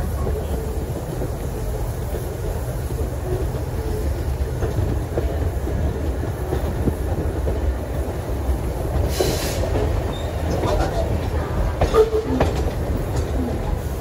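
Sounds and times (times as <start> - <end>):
train carriage rumble and rattle: 0.0 - 14.0
wheels clicking over rail joints: 0.0 - 14.0.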